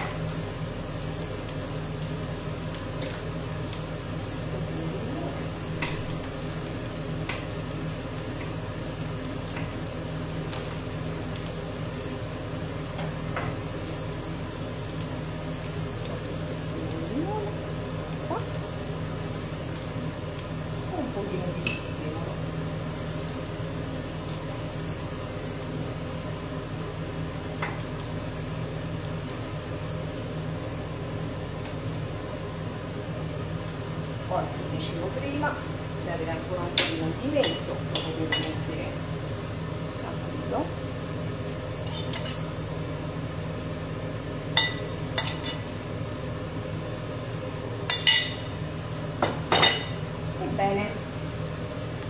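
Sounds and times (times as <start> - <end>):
fan motor humming: 0.0 - 52.0.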